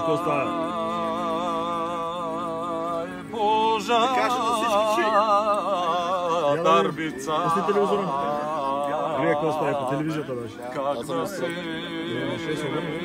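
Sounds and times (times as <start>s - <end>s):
man singing operatically: 0.0s - 13.0s.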